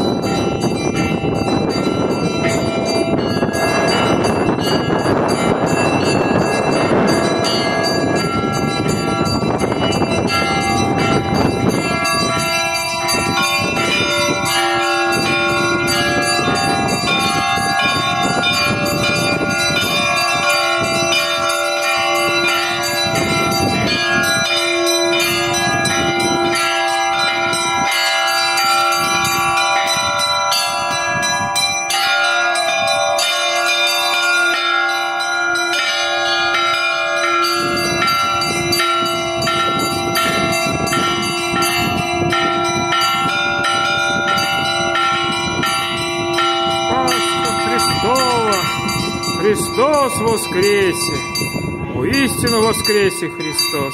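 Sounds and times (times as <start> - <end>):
church bells ringing: 0.0 - 53.9
deep bell tone: 0.0 - 53.9.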